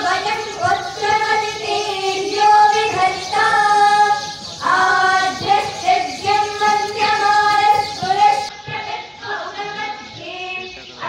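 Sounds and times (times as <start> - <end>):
girls singing a hymn: 0.0 - 11.0.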